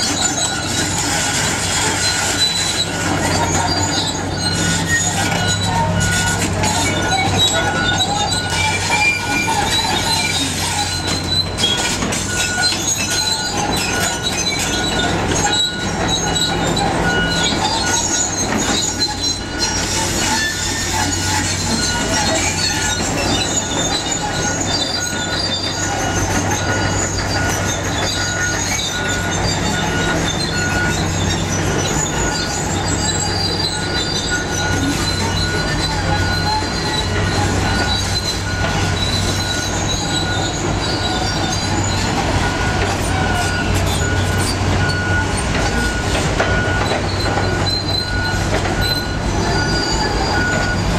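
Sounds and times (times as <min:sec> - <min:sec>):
diesel engine drone: 0:00.0 - 0:50.9
metallic squealing and grinding: 0:00.0 - 0:50.9.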